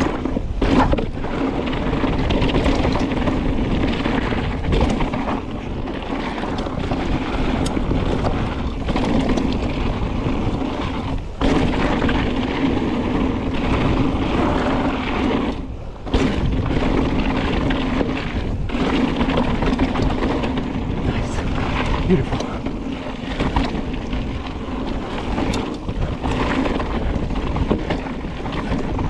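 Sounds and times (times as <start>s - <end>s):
bike tyres rumbling on dirt: 0.0s - 29.0s
wind on microphone: 0.0s - 29.0s.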